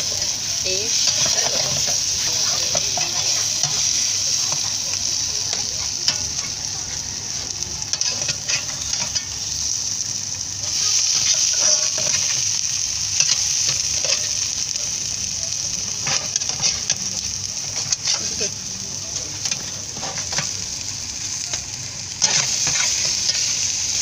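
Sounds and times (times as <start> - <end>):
egg sizzling in oil: 0.0 - 24.0.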